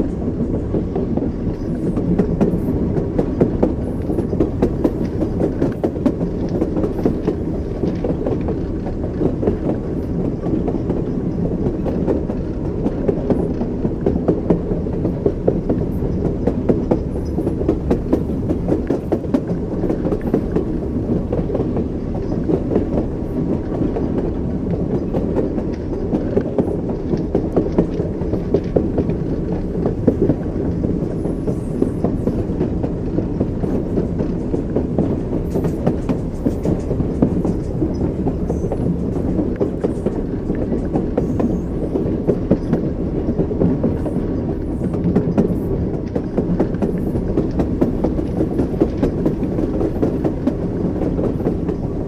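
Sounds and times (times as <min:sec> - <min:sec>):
low rumble of moving train: 0:00.0 - 0:52.0.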